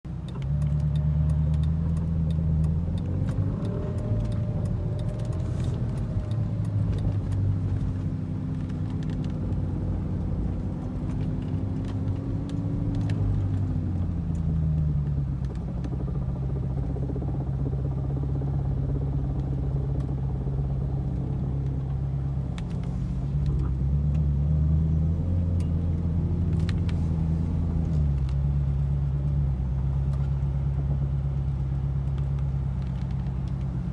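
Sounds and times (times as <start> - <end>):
sports car engine running: 0.1 - 33.9.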